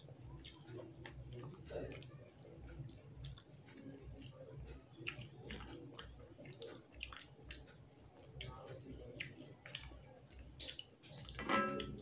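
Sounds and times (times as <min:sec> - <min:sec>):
wet chewing and lip smacks: 0:00.3 - 0:11.4
fingers squelching food: 0:00.4 - 0:11.9.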